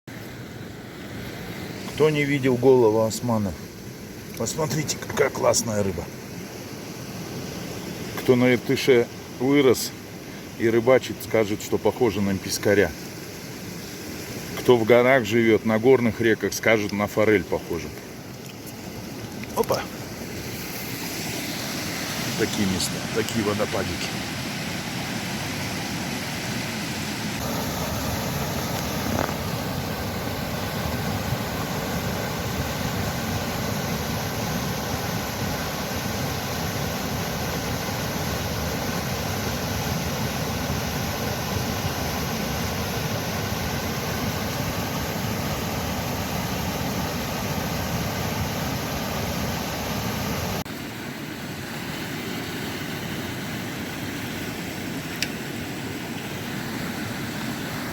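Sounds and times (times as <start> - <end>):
small waterfall rushing: 0.1 - 57.9.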